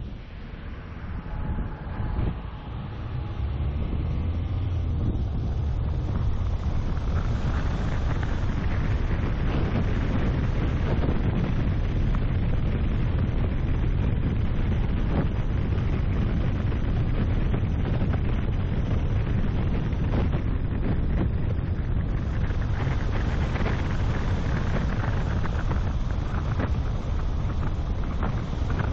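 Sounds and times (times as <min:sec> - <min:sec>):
car road noise rumble: 0:00.0 - 0:28.9
wind buffeting microphone: 0:00.0 - 0:28.9.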